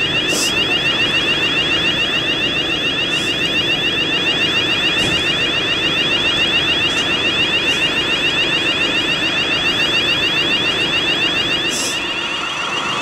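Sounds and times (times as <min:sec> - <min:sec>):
fire alarm rising sweep: 0:00.0 - 0:13.0.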